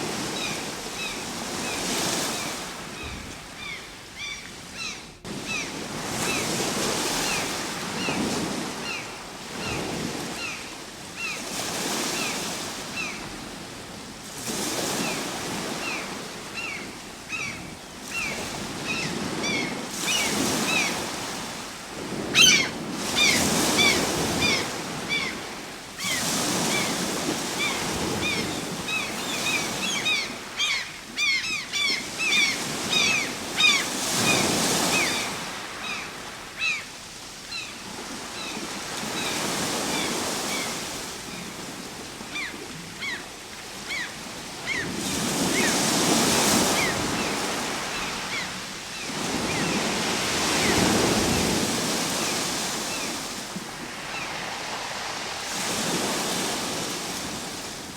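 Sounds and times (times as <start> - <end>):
ocean waves breaking: 5.2 - 36.8, 37.8 - 57.9.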